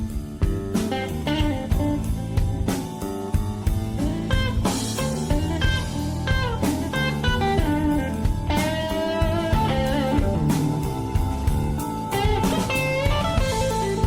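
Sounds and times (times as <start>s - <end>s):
bass and drums: 0.0s - 14.0s
electric lead guitar bending notes: 0.0s - 14.0s.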